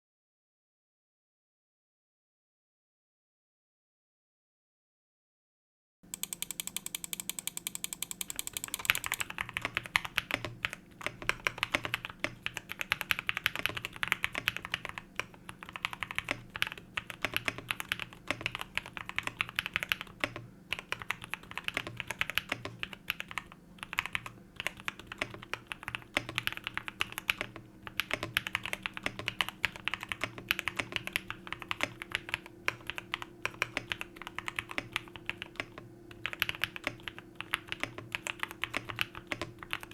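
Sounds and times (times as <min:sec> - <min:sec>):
mechanical keyboard typing: 0:06.1 - 0:39.9.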